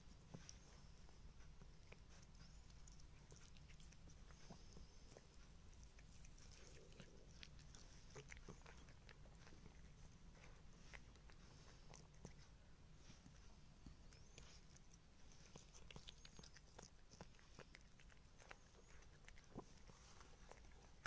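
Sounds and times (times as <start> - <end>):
kitten licking and chewing: 0.0 - 21.0.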